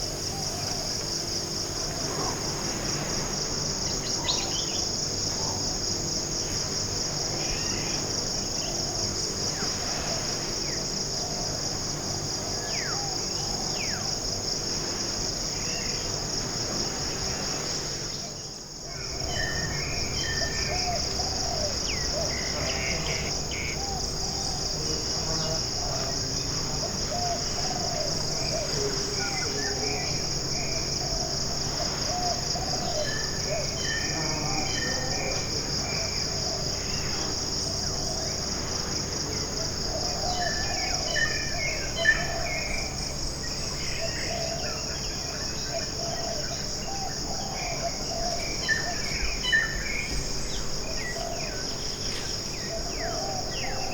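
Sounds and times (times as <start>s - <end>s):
pulsing insect chorus: 0.0s - 53.9s.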